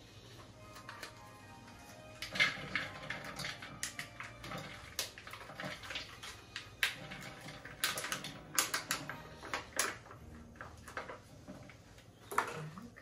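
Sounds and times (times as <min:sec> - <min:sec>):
kitchen utensils clicking and knocking: 0:00.7 - 0:13.0.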